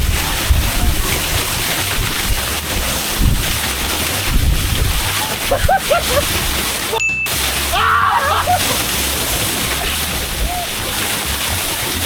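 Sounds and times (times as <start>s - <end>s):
wind buffeting microphone: 0.0s - 7.0s, 8.4s - 12.0s
waterfall rushing: 0.0s - 12.0s.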